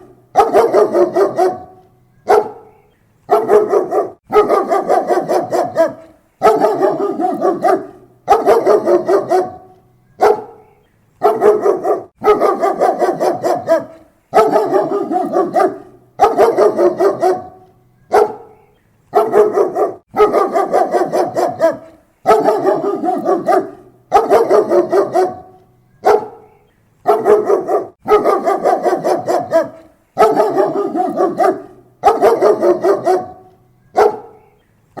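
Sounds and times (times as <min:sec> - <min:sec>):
dog barking: 0:00.0 - 0:34.6.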